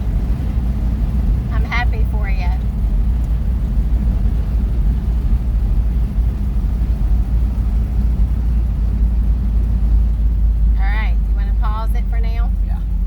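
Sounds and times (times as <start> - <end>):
engine deep rumble: 0.0 - 13.0
road noise: 0.0 - 13.0.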